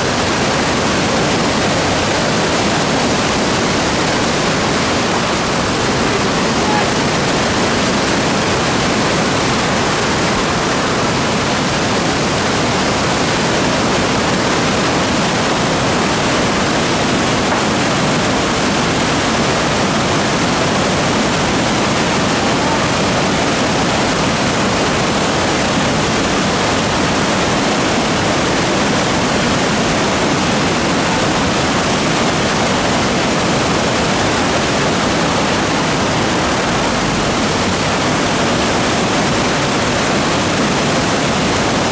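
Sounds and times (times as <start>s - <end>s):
whitewater rushing over rapids: 0.0s - 41.9s.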